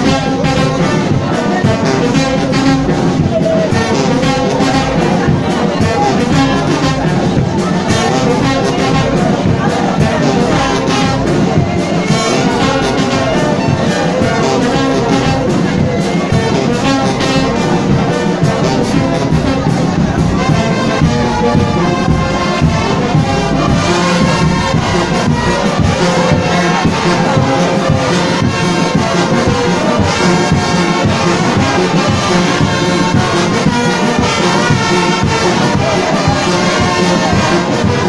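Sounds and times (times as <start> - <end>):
brass band playing over a beat: 0.0 - 38.0.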